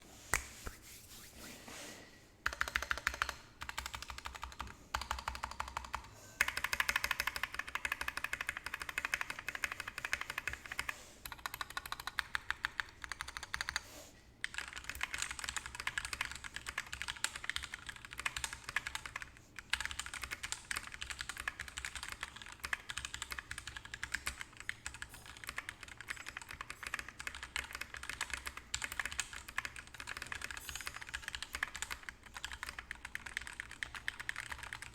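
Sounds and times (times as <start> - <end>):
mechanical keyboard typing: 2.4 - 13.8, 14.4 - 34.9.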